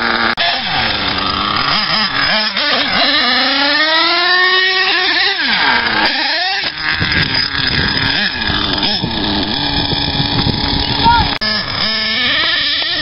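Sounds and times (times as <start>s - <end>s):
rough noisy rumble: 0.0s - 13.0s
small nitro engine revving: 0.0s - 13.0s.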